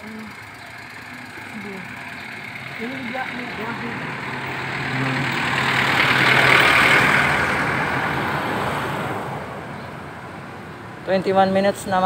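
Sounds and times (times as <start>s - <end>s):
vehicles passing by: 0.0s - 12.0s.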